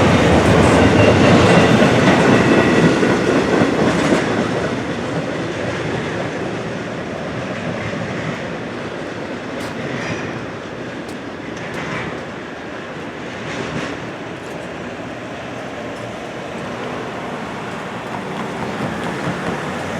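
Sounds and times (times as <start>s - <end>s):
train wheels clattering on rails: 0.0s - 19.9s.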